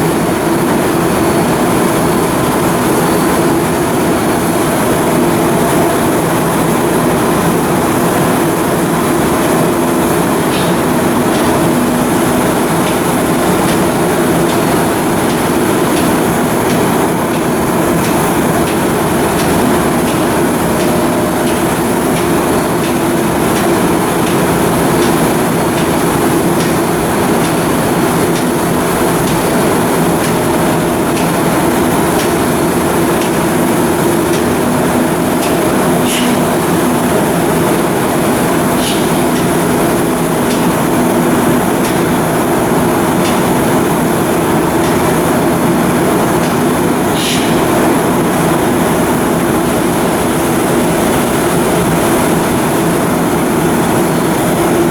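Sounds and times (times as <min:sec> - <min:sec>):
machinery droning hum: 0:00.0 - 0:54.9.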